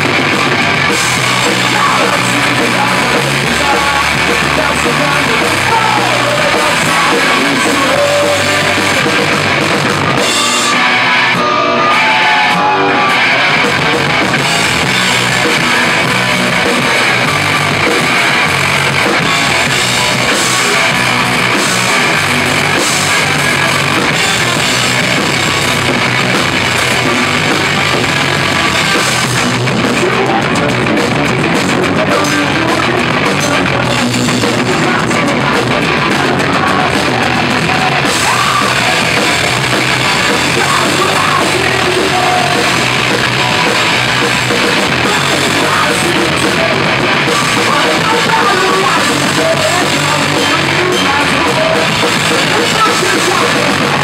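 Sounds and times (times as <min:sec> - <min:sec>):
bass guitar: 0:00.0 - 0:54.0
distorted electric guitars: 0:00.0 - 0:54.0
drum kit: 0:00.0 - 0:54.0.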